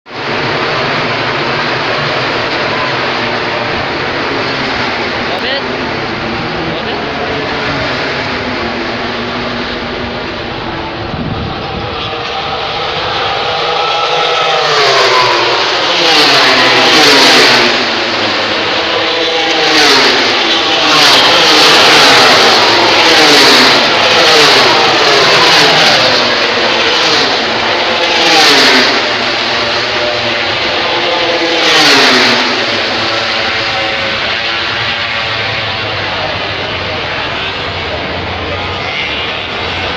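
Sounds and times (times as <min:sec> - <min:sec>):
racing motorcycles passing: 0:00.1 - 0:39.9.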